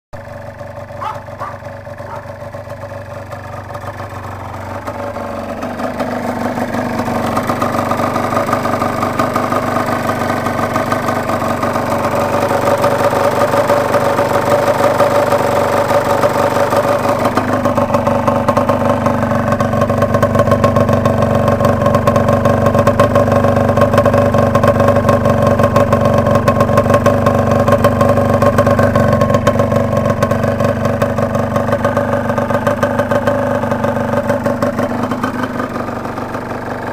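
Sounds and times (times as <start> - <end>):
two-stroke motorcycle engine running: 0.2 - 36.9.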